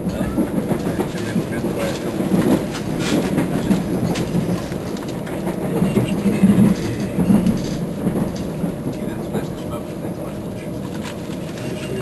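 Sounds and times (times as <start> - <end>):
train rumbling: 0.0 - 12.0
wheels clicking over rail joints: 0.0 - 12.0.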